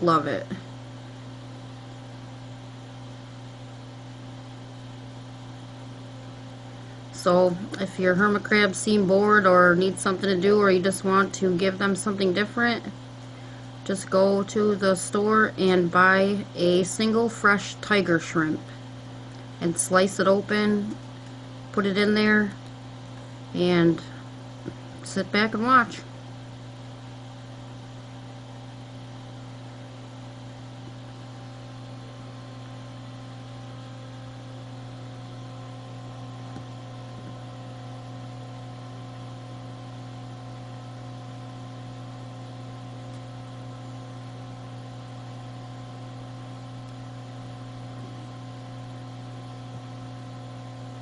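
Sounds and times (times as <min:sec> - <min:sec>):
electrical mains hum: 0:00.0 - 0:51.0.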